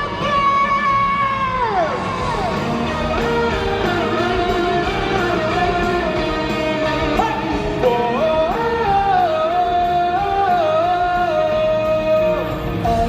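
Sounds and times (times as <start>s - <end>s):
electric guitar sliding melody: 0.0s - 13.0s
rock band playing live: 0.0s - 13.0s.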